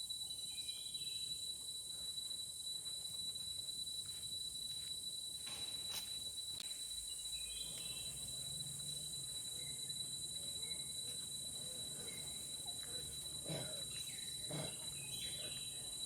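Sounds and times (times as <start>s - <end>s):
rainforest insects whining: 0.0s - 16.0s.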